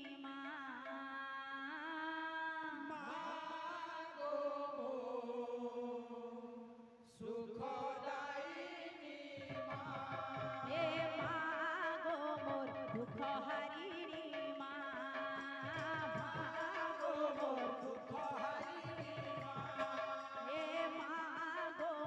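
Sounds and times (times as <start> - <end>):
folk song sung over a pa: 0.0 - 22.0.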